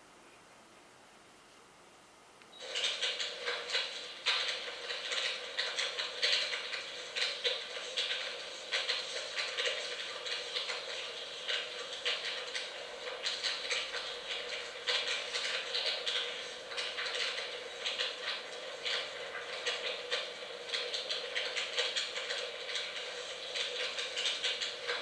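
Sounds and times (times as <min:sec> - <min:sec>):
fire crackling: 0:02.6 - 0:25.0.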